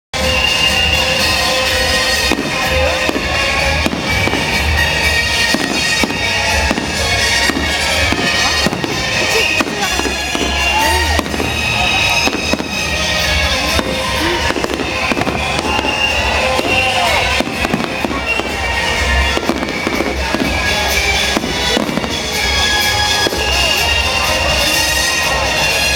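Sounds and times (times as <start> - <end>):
loud music: 0.1 - 25.9
fireworks bangs and crackles: 0.2 - 25.9.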